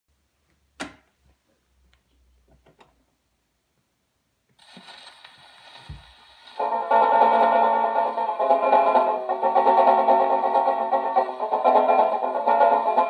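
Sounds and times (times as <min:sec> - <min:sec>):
record surface hiss and crackle: 0:00.1 - 0:13.0.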